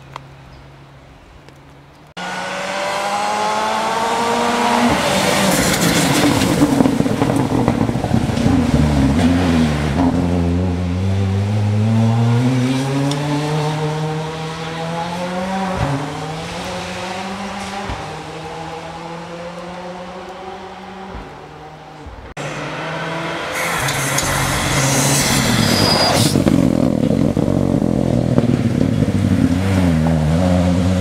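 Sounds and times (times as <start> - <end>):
rally car engine revving: 2.2 - 31.0.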